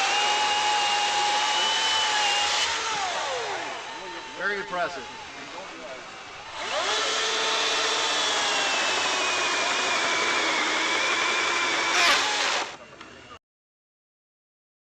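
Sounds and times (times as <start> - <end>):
electric chainsaw cutting wood: 0.0 - 12.8.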